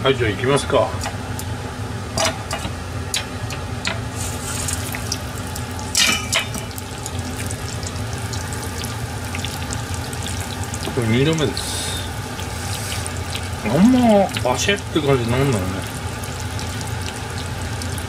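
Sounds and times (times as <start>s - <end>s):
oil bubbling and sizzling: 0.6s - 18.0s.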